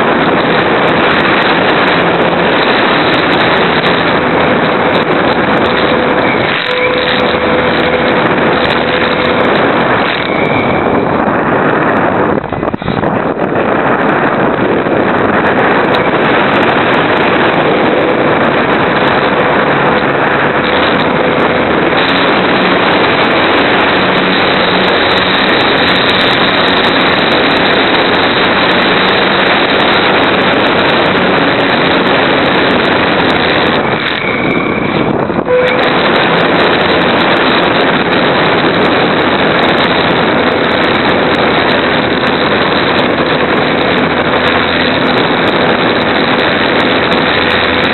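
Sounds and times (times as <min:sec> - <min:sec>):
air rushing over microphone: 0:00.0 - 0:47.9
model airplane motor and propeller: 0:00.0 - 0:47.9.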